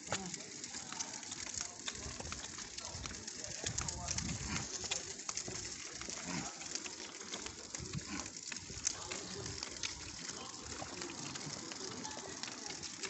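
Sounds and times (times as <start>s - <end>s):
stroller wheels on asphalt: 0.0s - 13.0s.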